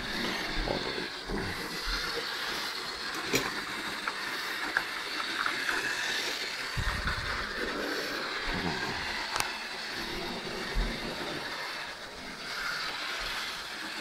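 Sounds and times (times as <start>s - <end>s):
model train whirring: 0.0s - 14.0s.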